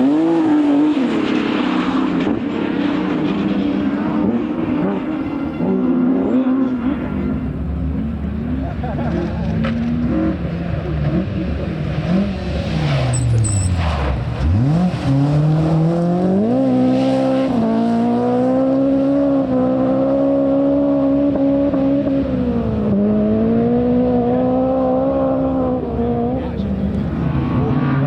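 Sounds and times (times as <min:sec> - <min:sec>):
rally car engine under hard throttle: 0:00.0 - 0:28.0.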